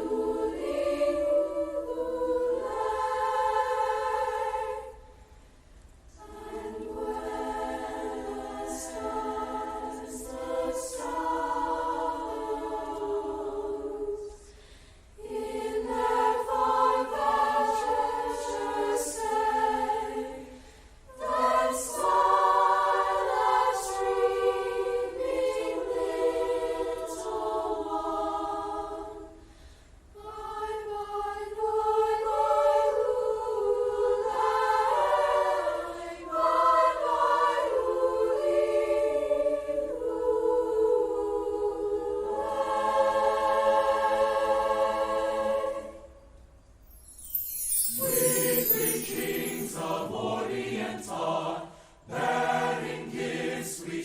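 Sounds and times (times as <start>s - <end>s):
children's choir singing: 0.0s - 5.0s, 6.2s - 14.4s, 15.2s - 29.4s, 30.2s - 46.3s, 46.9s - 54.0s.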